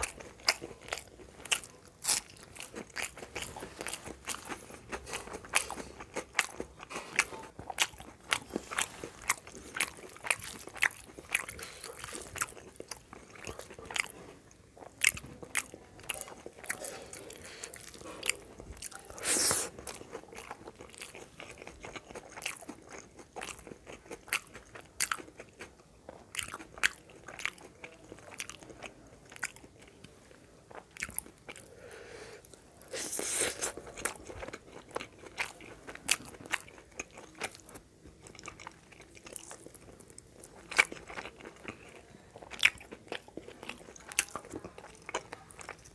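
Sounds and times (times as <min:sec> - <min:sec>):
chewing with crunchy clicks: 0:00.0 - 0:31.7, 0:33.6 - 0:45.9.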